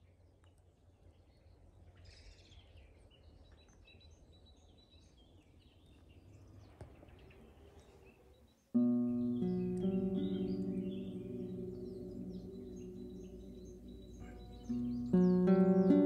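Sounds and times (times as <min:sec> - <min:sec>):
small birds chirping: 0:01.4 - 0:16.0.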